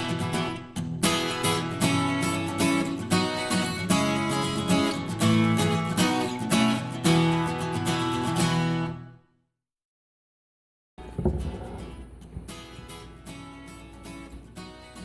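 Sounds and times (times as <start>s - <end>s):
strummed acoustic guitar music: 0.0s - 9.2s, 11.0s - 15.0s.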